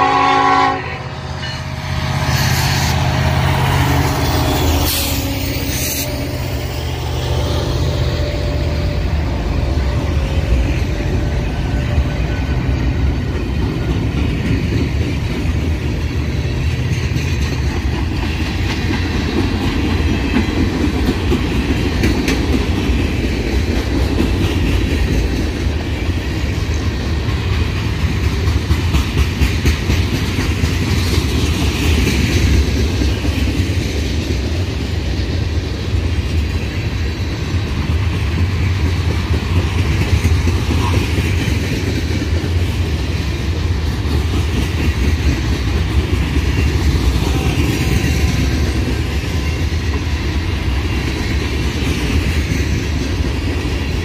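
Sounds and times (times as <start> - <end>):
diesel locomotive passing: 0.0 - 54.0
freight train wheels rumbling: 0.0 - 54.0
wheels clacking over rails: 9.4 - 54.0.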